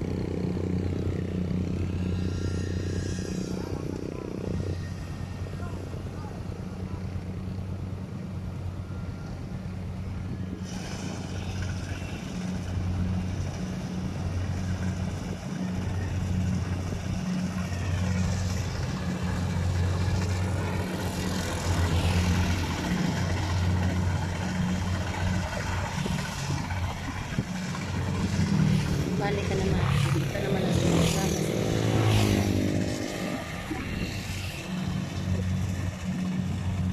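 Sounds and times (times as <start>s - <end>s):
combine harvester engine humming: 0.0s - 36.9s.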